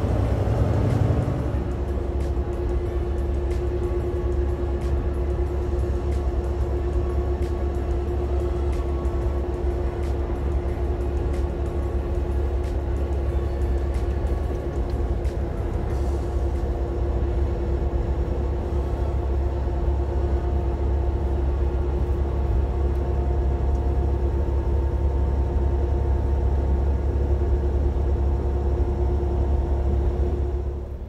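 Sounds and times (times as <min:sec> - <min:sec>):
steady hum: 0:00.0 - 0:31.0
truck engine rumble: 0:00.0 - 0:31.0.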